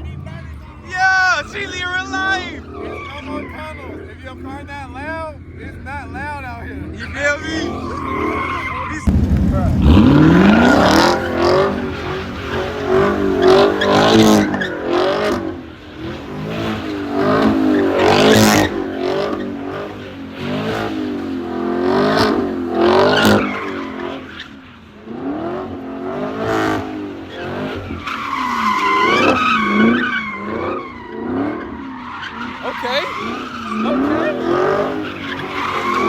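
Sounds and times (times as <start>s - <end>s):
car engine revving hard: 0.0s - 36.0s.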